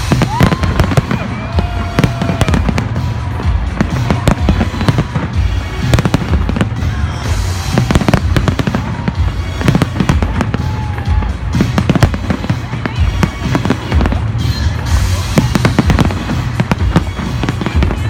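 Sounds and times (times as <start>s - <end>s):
fireworks bangs and booms: 0.0s - 18.0s
music playing: 0.0s - 18.0s.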